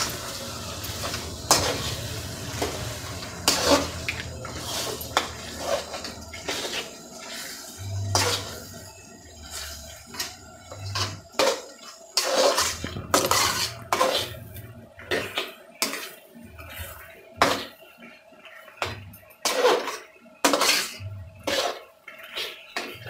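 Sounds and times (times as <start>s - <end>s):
spatula scraping a pan: 0.0s - 23.0s.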